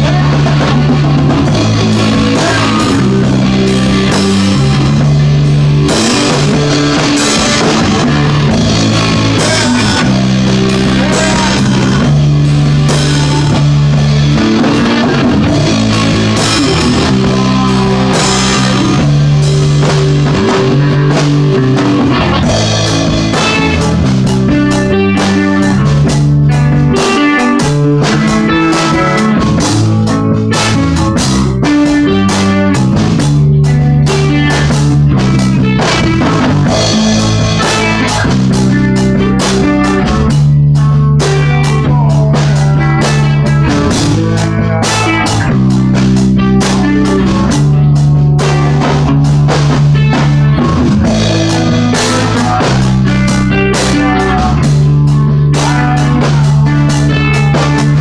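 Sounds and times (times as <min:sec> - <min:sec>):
drum kit with cymbals: 0:00.0 - 0:58.0
guitar riff: 0:00.0 - 0:58.0.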